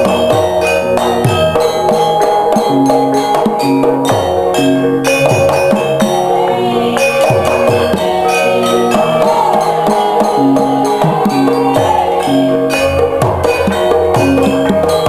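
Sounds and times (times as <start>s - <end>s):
struck metallophones ringing: 0.0s - 15.0s.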